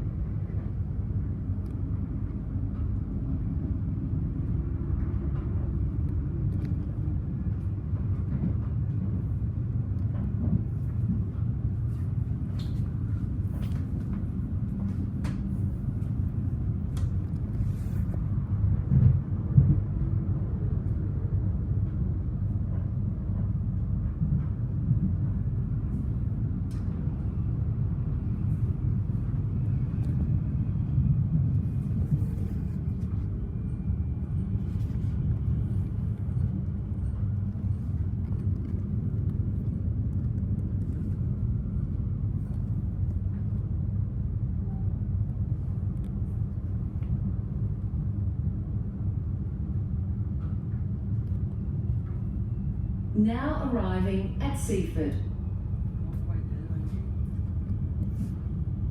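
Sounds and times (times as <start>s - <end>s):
train rumbling on track: 0.0s - 58.9s.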